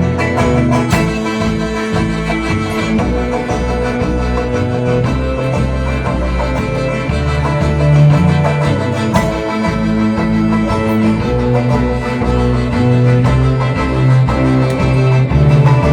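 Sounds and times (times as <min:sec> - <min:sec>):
guitar: 0:00.0 - 0:15.9
live band playing: 0:00.0 - 0:15.9
sustained bass notes: 0:00.0 - 0:15.9.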